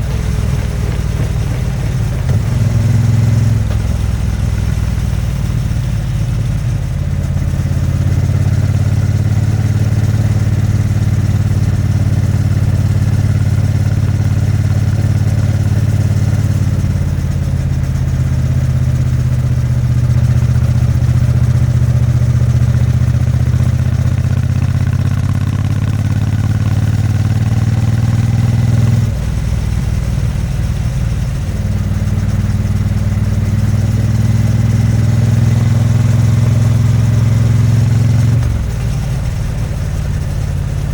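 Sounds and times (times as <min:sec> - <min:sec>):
motorcycle engine and exhaust running: 0:00.0 - 0:40.9.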